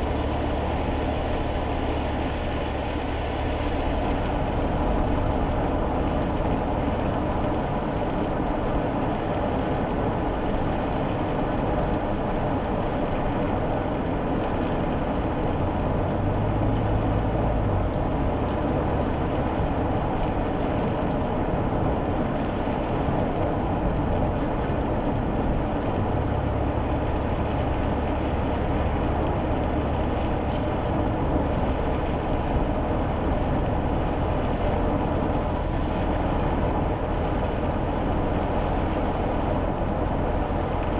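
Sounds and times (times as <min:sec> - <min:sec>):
car engine hum: 0:00.0 - 0:40.9
tyre road noise: 0:00.0 - 0:40.9.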